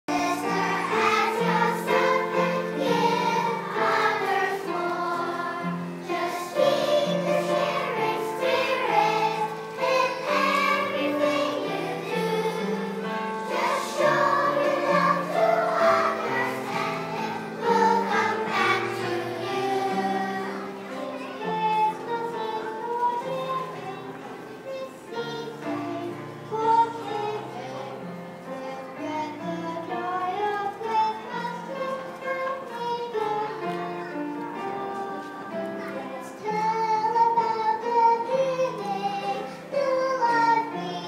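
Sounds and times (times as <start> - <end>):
children's choir singing: 0.0 - 41.0.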